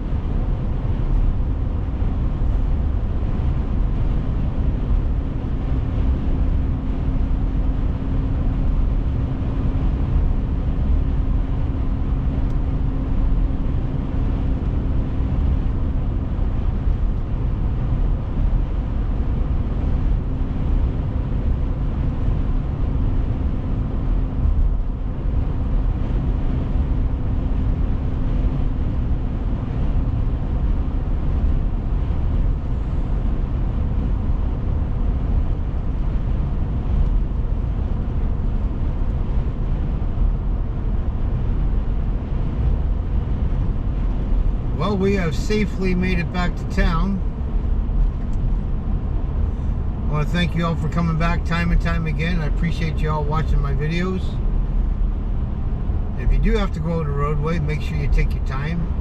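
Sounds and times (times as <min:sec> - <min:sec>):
road and engine noise: 0:00.0 - 0:59.0.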